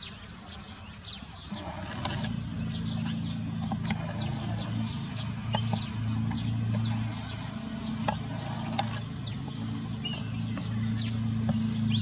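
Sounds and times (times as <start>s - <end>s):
starling singing: 0.0s - 12.0s
low steady hum: 1.4s - 12.0s.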